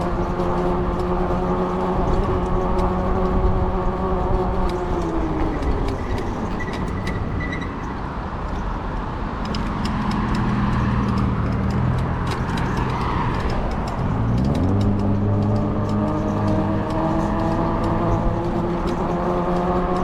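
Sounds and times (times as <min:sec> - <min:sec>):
wind and road rush: 0:00.0 - 0:20.0.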